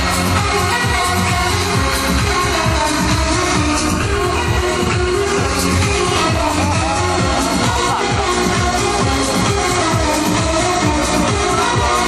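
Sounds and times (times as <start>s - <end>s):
electronic dance music: 0.0s - 12.0s
steady kick drum: 0.0s - 12.0s.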